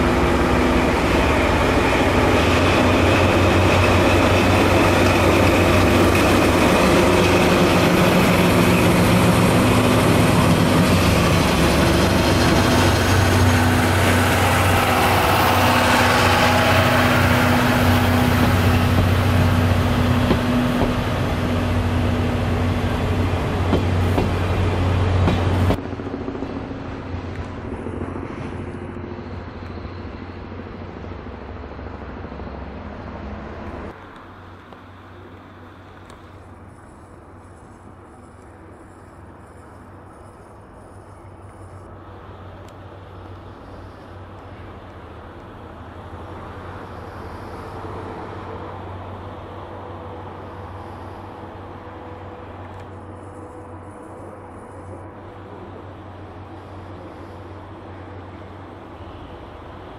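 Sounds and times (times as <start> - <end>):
diesel locomotive engine droning: 0.0 - 59.9
distant train: 0.0 - 59.9
train coaches rolling on rails: 0.0 - 59.9.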